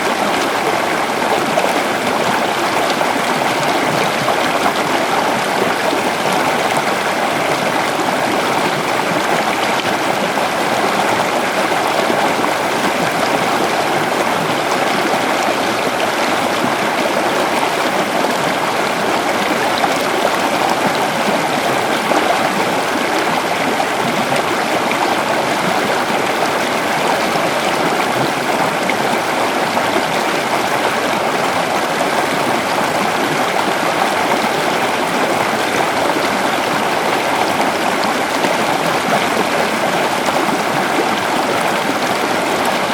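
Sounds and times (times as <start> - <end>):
river rushing over rocks: 0.0 - 42.9.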